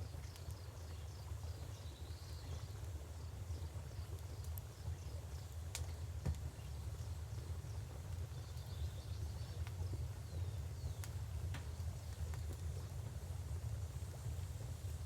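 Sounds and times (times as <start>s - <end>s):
wood fire crackling and popping: 0.1s - 1.0s, 2.5s - 15.0s.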